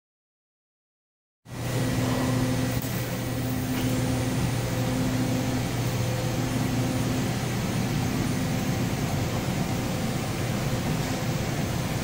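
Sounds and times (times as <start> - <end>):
low electrical hum: 1.5 - 12.0
machine hum with fan hiss: 1.5 - 12.0.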